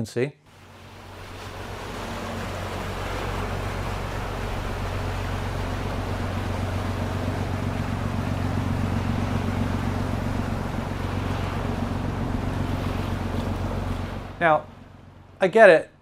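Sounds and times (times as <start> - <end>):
wind: 0.0 - 16.0
water noise: 0.5 - 15.8
boat engine humming: 0.5 - 16.0.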